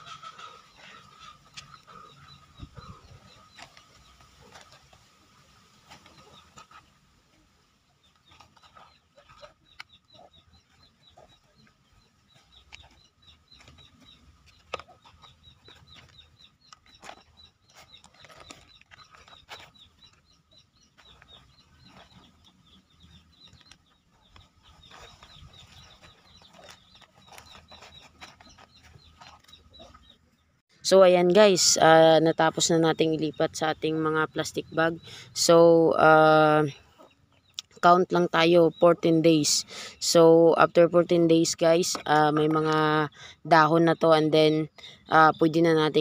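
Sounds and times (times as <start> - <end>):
faint birds chirping: 0.0 - 46.0.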